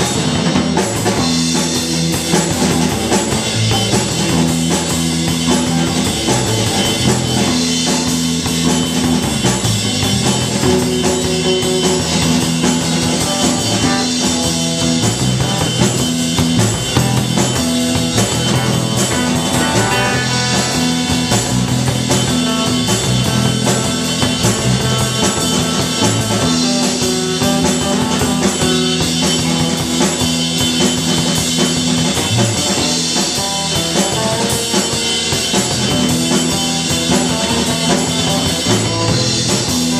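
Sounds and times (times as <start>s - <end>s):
drum kit: 0.0s - 39.9s
electric guitar through amplifier: 0.0s - 39.9s
live rock band playing: 0.0s - 39.9s.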